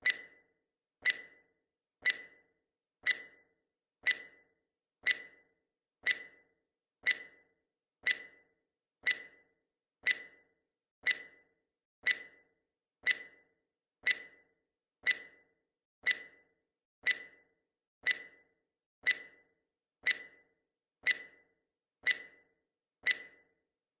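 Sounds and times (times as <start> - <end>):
clock-like timer ticks: 0.0 - 23.6.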